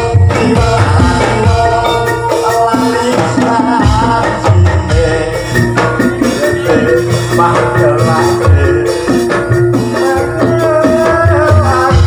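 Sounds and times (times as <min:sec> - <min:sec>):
drum beat: 0:00.0 - 0:12.0
gamelan ensemble playing: 0:00.0 - 0:12.0.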